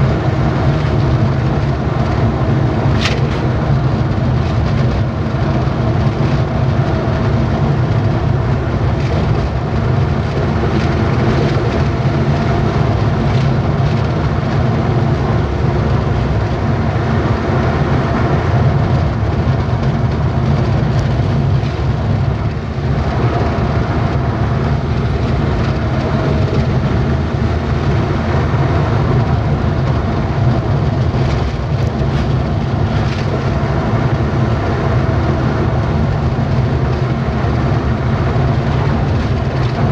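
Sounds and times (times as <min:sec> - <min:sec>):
road noise: 0:00.0 - 0:39.9
truck engine humming: 0:00.0 - 0:39.9.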